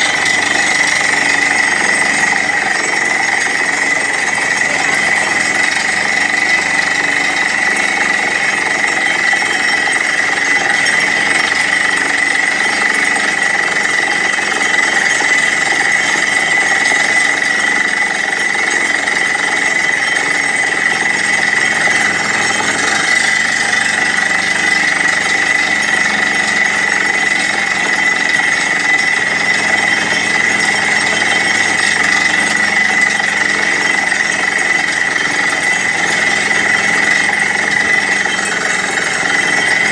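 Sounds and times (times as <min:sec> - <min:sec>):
air hammer bit hammering: 0:00.0 - 0:39.9
constant high whine: 0:00.0 - 0:39.9
drilling rig engine and compressor: 0:00.0 - 0:39.9.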